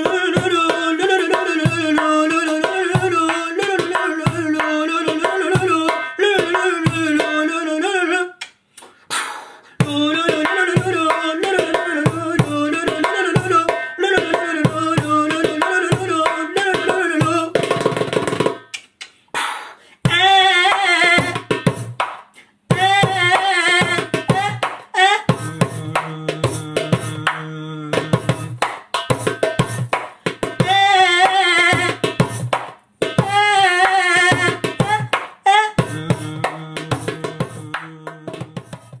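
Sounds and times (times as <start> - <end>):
hand drum strikes: 0.0 - 7.4, 9.8 - 18.8, 20.1 - 39.0.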